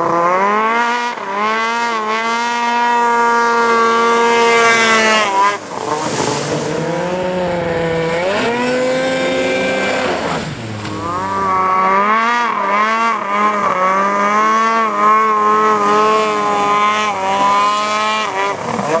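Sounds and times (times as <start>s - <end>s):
snowmobile engine at high revs: 0.0s - 19.0s.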